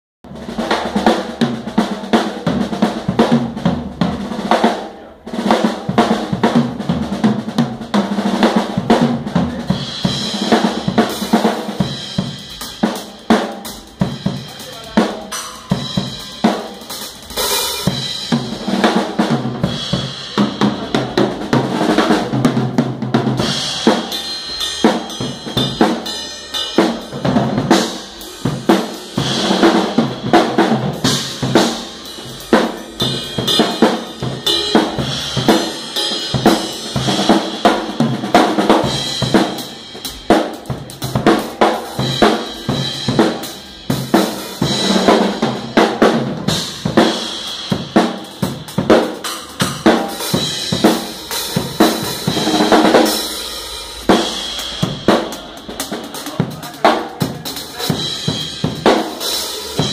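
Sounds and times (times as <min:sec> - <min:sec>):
drum kit played with sticks: 0:00.2 - 0:59.9
crashing cymbals: 0:09.7 - 0:22.6, 0:23.3 - 0:59.9.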